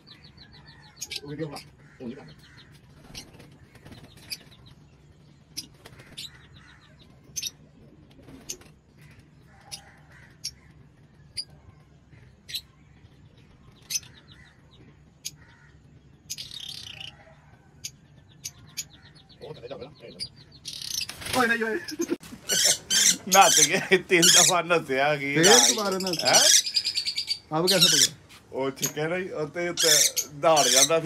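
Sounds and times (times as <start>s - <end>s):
lovebirds chirping: 0.0s - 31.0s
rapid bird chattering: 0.0s - 31.0s.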